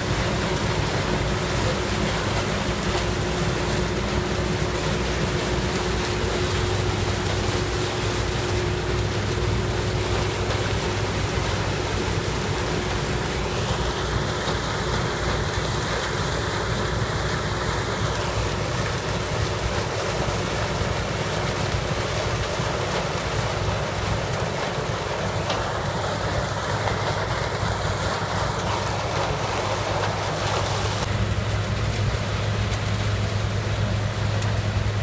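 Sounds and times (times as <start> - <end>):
broad rushing noise: 0.0 - 35.0
harvester engine droning: 0.0 - 35.0.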